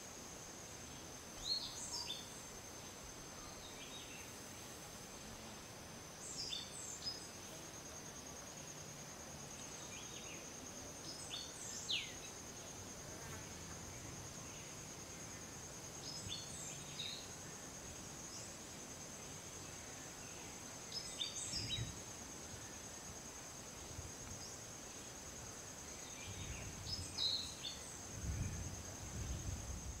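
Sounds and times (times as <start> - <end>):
high-pitched insect trill: 0.0 - 30.0.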